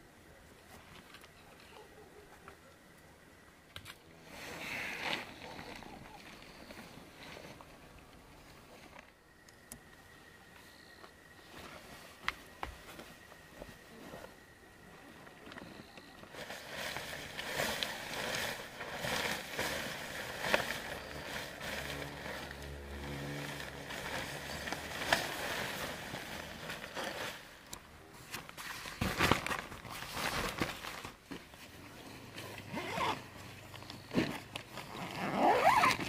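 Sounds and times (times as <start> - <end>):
nylon tent fly rustling: 3.9 - 9.2, 10.6 - 36.0.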